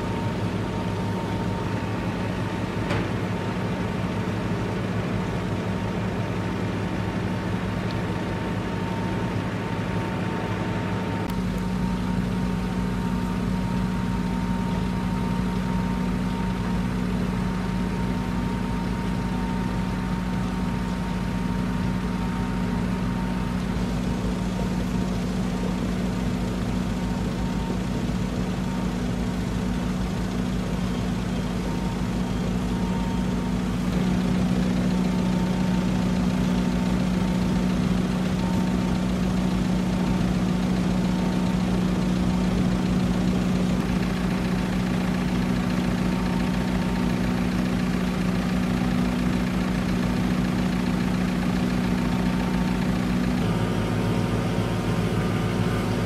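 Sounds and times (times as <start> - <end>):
large engine running steadily: 0.0 - 56.0.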